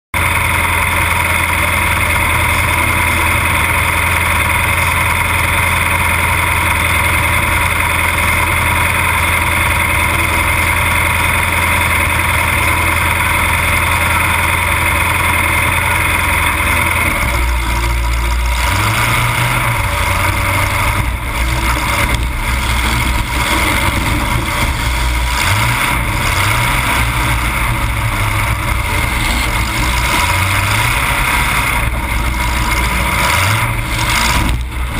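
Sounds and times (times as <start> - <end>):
car engine through open exhaust: 0.1 - 34.9.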